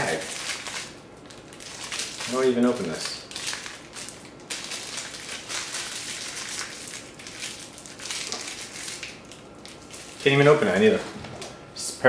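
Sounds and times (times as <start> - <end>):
plastic pouch crinkling: 0.0 - 10.9.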